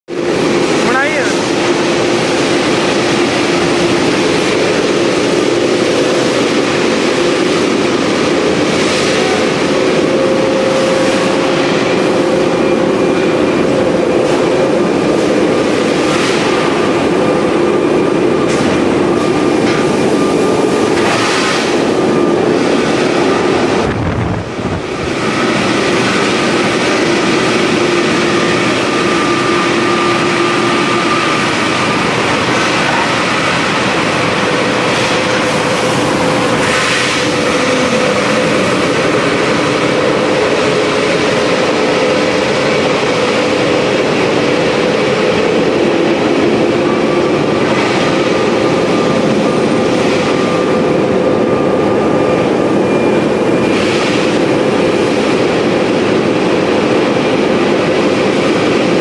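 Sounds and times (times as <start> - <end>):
rolling mill machinery roar: 0.1 - 59.0.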